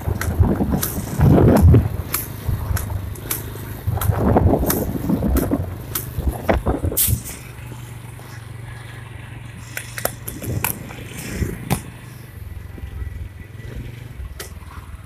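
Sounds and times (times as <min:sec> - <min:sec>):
motorcycle engine humming: 0:00.0 - 0:15.0.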